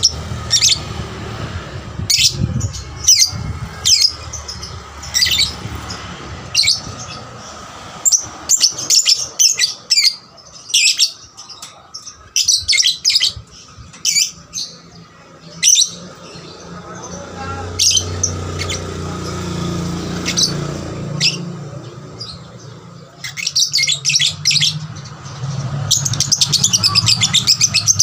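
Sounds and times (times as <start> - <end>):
lovebird chirping: 2.1 - 19.0, 22.2 - 28.0.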